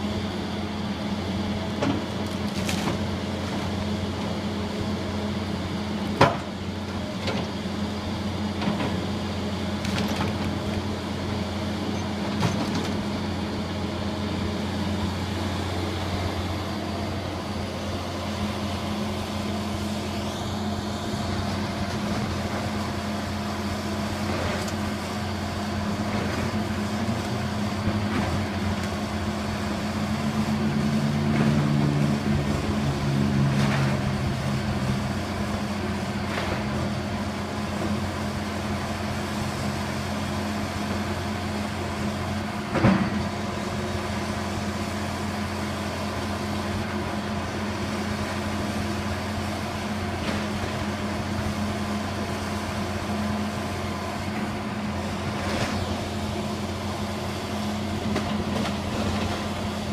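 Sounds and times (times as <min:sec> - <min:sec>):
excavator diesel engine running: 0:00.0 - 0:59.9
second engine: 0:08.6 - 0:59.9.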